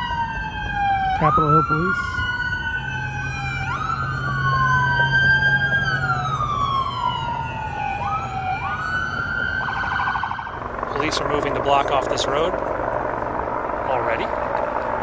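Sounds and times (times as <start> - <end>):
police sirens wailing: 0.0 - 15.0.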